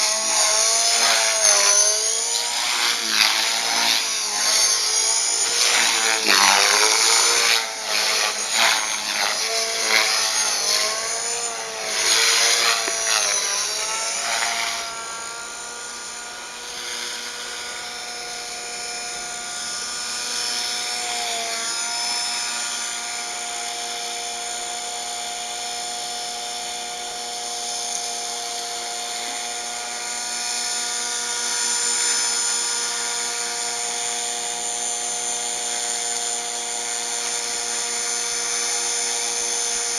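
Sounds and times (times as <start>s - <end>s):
rc helicopter whining: 0.0s - 39.9s.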